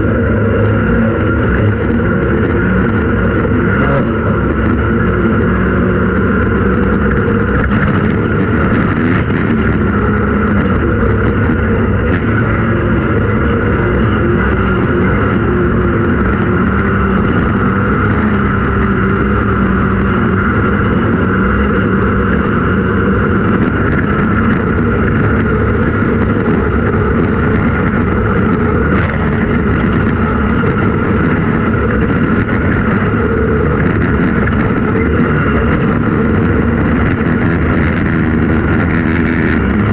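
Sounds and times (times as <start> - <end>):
off-road race vehicle engine running: 0.0 - 39.9.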